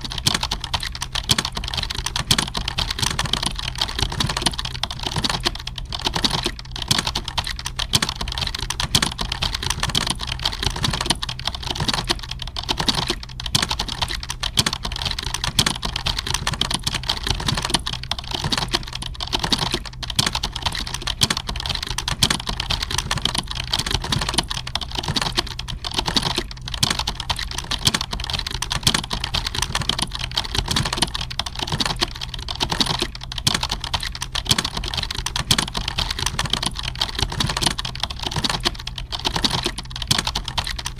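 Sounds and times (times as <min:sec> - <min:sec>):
computer keyboard typing: 0:00.0 - 0:40.9
steady low hum: 0:00.0 - 0:40.9.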